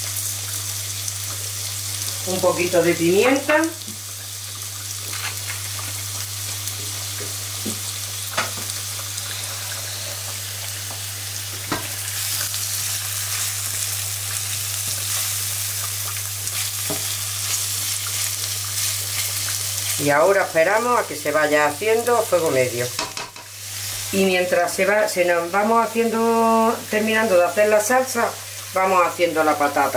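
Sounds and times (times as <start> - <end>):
mushrooms and onion sizzling in pan: 0.0 - 29.9.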